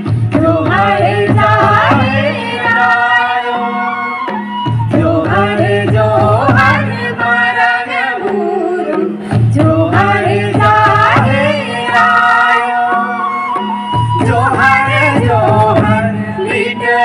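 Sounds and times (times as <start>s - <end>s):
drum strokes: 0.0s - 3.6s, 4.2s - 17.0s
folk song over loudspeaker: 0.0s - 17.0s.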